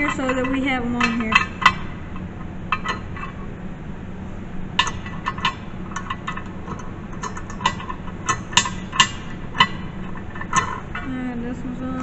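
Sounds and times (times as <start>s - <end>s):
metal nuts and bolts clinking: 0.0s - 3.4s, 4.8s - 11.1s
steady low hum: 0.0s - 12.0s.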